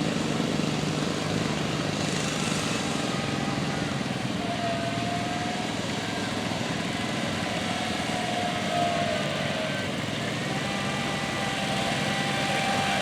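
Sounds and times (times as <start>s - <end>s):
small engine at high revs: 0.1s - 13.0s.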